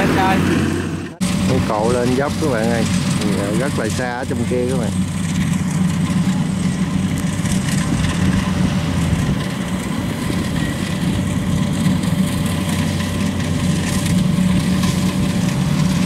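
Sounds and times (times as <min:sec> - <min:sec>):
tracked carrier engine running: 0:00.0 - 0:16.0.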